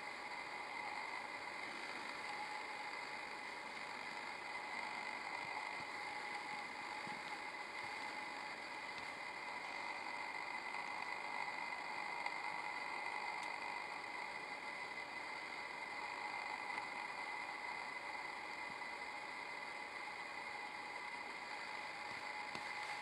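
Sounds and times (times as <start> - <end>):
high-pitched hum: 0.0 - 23.0.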